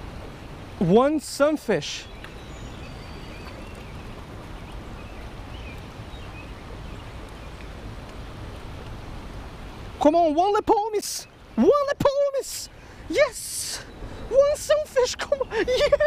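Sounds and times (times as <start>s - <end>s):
creek water rushing over spillway: 0.0s - 16.0s.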